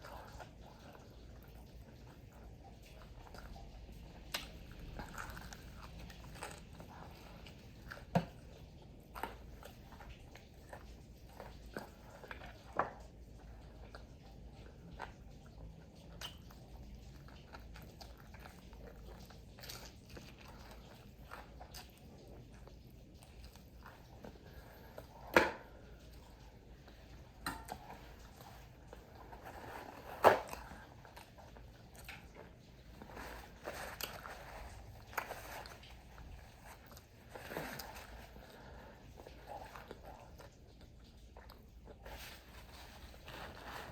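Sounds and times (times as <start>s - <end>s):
chewing crispy food: 0.0s - 43.9s.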